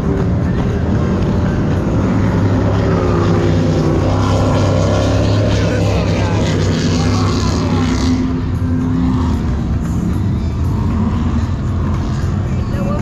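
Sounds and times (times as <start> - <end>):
powerboat engines running: 0.0 - 13.0.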